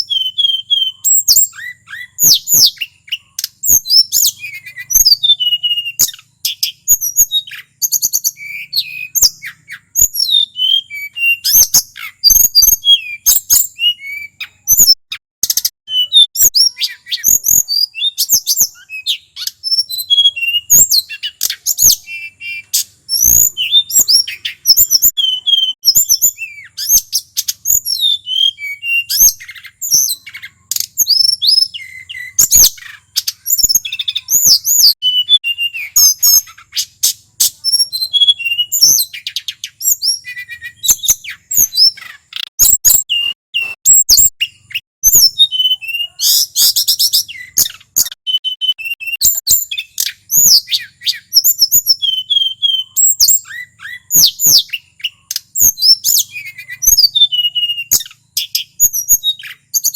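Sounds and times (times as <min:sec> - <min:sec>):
bird singing high whistled notes: 0:00.0 - 0:59.9.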